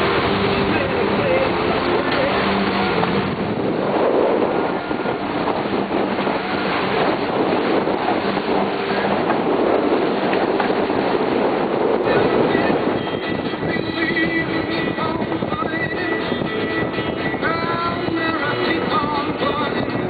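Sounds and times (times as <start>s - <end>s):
wind and water rushing: 0.0s - 20.0s
wind buffeting microphone: 0.0s - 20.0s.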